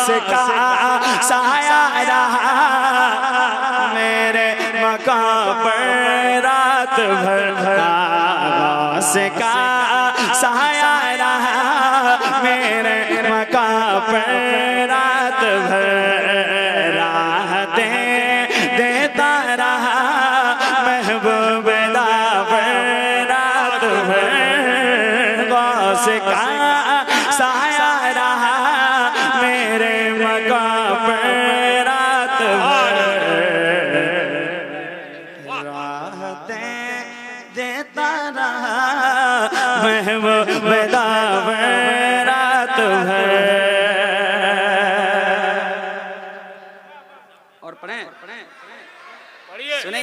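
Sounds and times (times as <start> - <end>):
man singing wordlessly: 0.0 - 46.4.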